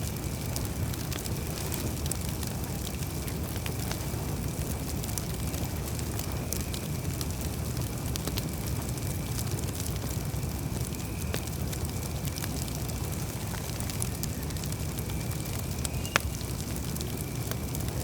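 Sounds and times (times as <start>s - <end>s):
campfire crackling and popping: 0.0s - 18.0s
low rush of burning fire: 0.0s - 18.0s.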